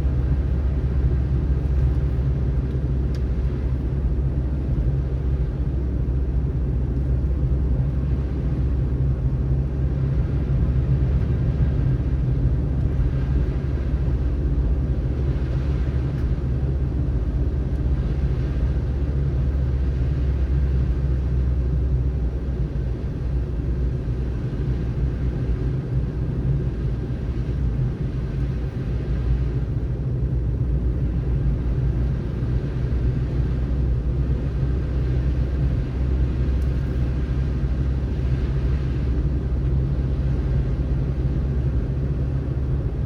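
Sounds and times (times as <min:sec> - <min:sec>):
car driving on snowy road: 0:00.0 - 0:43.0
road noise hiss: 0:00.0 - 0:43.0.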